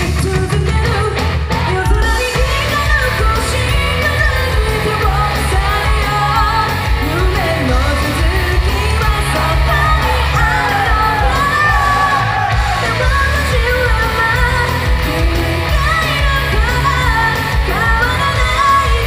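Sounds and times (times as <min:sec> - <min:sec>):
pop-rock backing track: 0:00.0 - 0:19.0
woman singing into microphone: 0:00.0 - 0:19.0.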